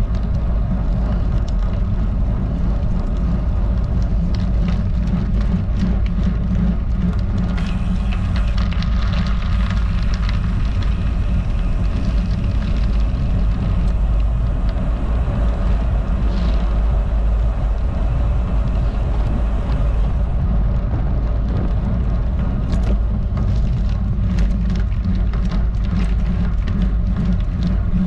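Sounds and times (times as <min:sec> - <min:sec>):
bicycle tyres on rough road: 0:00.0 - 0:28.0
wind buffeting microphone: 0:00.0 - 0:28.0.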